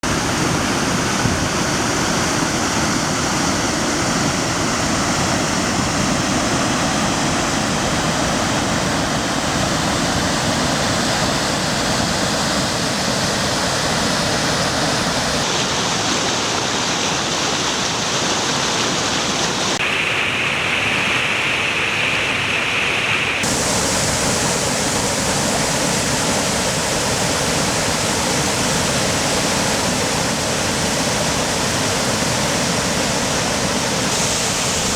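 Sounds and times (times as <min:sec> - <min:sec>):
waterfall rushing: 0:00.0 - 0:20.9, 0:23.2 - 0:34.9.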